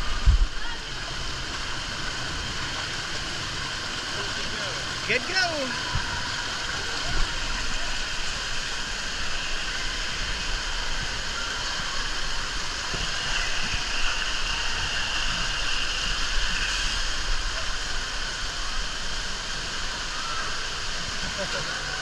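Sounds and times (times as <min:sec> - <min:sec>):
water rushing down a flume: 0:00.0 - 0:22.0.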